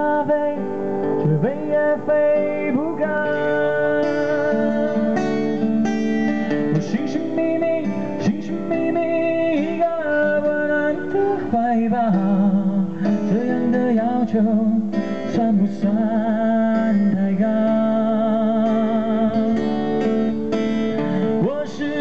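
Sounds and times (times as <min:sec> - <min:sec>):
man singing a ballad: 0:00.0 - 0:20.3, 0:20.9 - 0:22.0
strummed acoustic guitar: 0:00.0 - 0:22.0.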